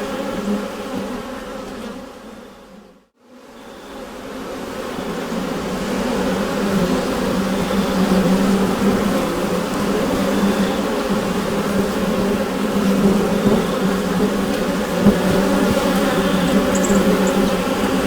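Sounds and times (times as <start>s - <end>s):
bees buzzing in a hive: 0.0s - 18.0s.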